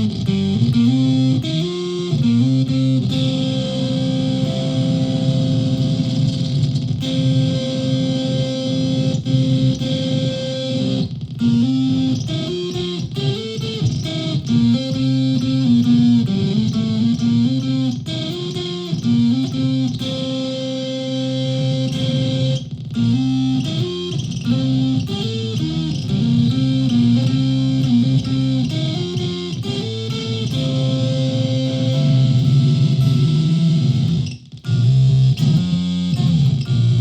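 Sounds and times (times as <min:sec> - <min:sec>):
electric ukulele through effects pedal: 0:00.0 - 0:37.0.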